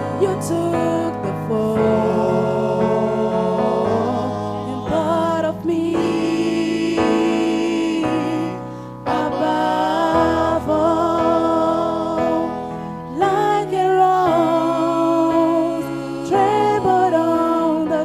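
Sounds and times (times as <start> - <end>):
vocal group singing gospel: 0.0 - 18.0.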